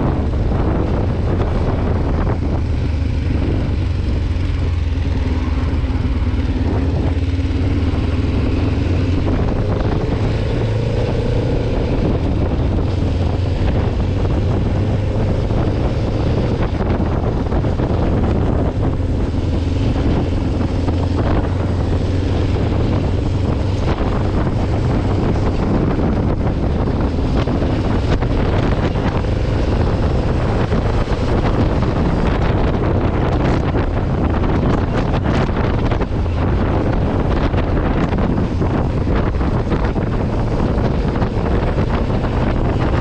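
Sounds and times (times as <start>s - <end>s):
motorcycle engine cruising: 0.0s - 43.0s
wind rushing over microphone: 0.0s - 43.0s.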